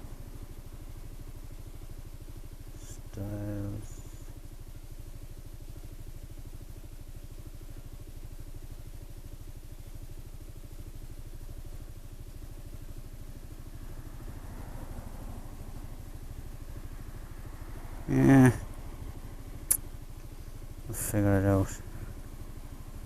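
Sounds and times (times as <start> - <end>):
scooter engine idling: 0.0 - 23.0.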